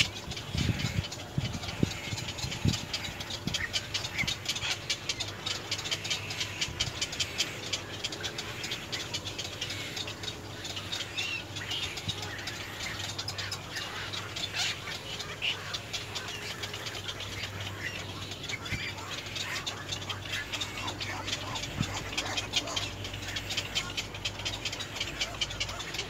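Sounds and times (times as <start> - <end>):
high bird calls: 0.0 - 26.0
ticking chattering bird calls: 0.0 - 26.0.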